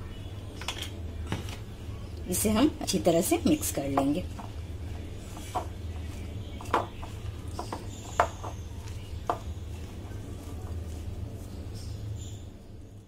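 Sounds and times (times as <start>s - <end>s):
steady low hum: 0.0s - 13.0s
hands mixing batter in bowl: 1.3s - 13.0s.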